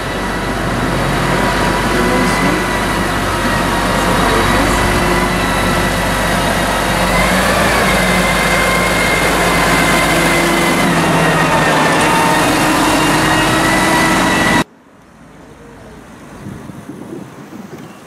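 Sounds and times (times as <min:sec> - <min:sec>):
steady whine: 0:00.0 - 0:16.0
tractor diesel engine running: 0:00.0 - 0:16.7.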